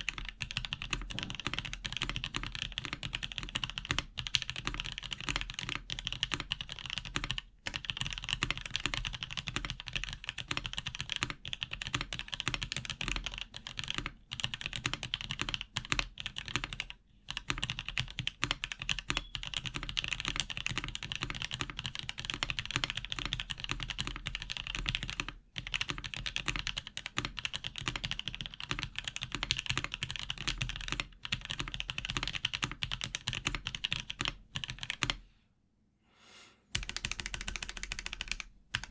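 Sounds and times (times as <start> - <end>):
fast mechanical keyboard typing: 0.0 - 35.2, 36.8 - 38.9.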